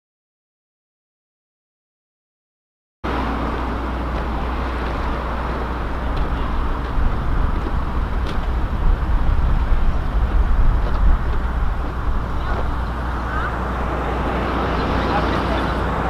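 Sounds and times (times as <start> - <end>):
car engines rumbling: 3.0 - 16.0.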